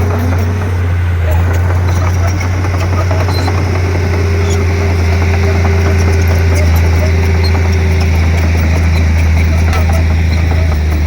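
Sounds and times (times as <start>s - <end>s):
bulldozer diesel engine droning: 0.0s - 11.0s.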